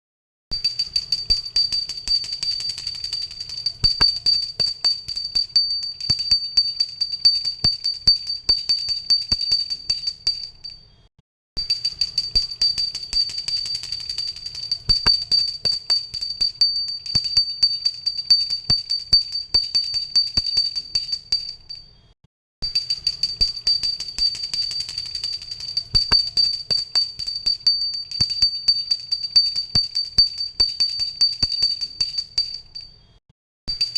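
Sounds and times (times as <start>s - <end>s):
bell ringing rapidly: 0.6s - 10.8s, 11.6s - 21.8s, 22.7s - 32.9s.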